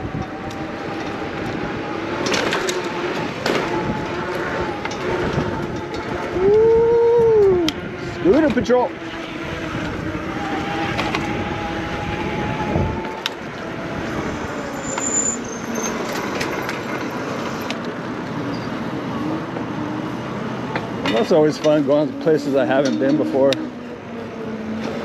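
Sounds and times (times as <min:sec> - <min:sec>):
steady whine: 0:00.0 - 0:25.0
wind rushing over microphone: 0:00.0 - 0:25.0
tyres rolling: 0:00.3 - 0:25.0.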